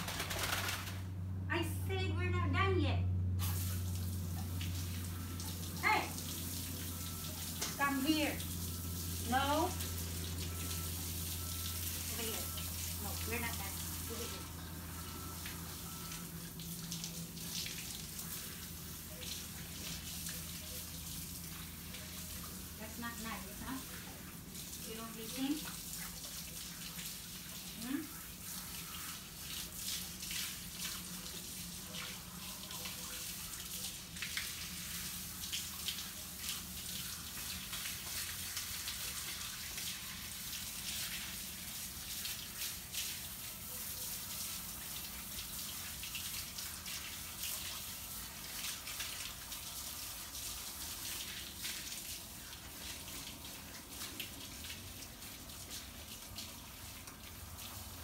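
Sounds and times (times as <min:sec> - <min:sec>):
water splashing on pavers: 0:00.0 - 0:01.2, 0:03.4 - 0:58.0
garden hose spraying water: 0:00.0 - 0:58.0.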